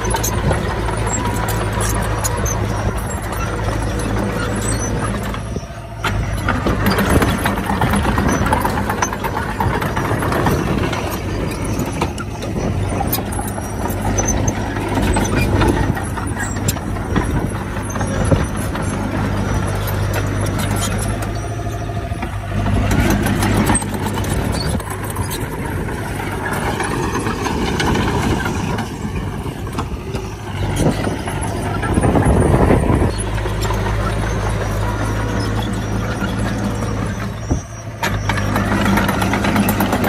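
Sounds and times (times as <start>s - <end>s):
crawler tracks clanking: 0.0s - 40.0s
diesel engine under load: 0.0s - 40.0s.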